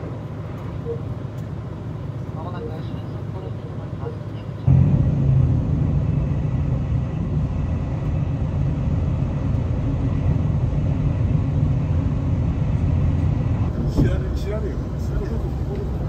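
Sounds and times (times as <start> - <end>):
train cabin low rumble: 0.0 - 16.0.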